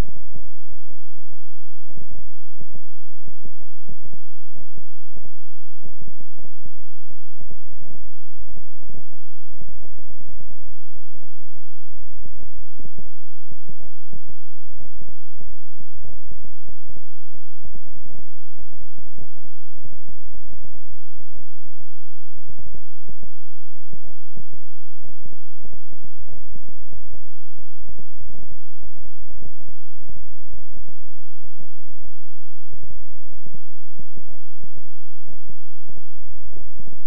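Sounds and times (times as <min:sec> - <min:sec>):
synthesized low hum: 0:00.0 - 0:37.0.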